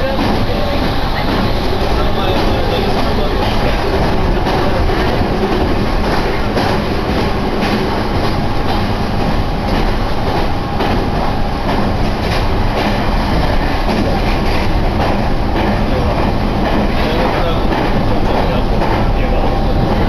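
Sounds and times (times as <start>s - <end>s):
track clacks: 0.0s - 20.0s
train wheels rumbling on rails: 0.0s - 20.0s.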